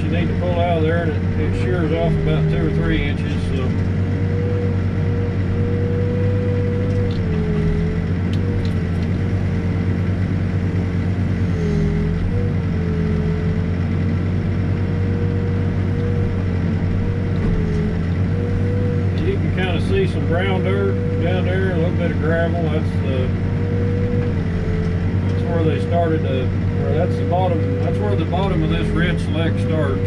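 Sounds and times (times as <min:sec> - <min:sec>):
hydraulic whine: 0:00.0 - 0:09.9, 0:10.6 - 0:30.0
diesel engine running: 0:00.0 - 0:30.0.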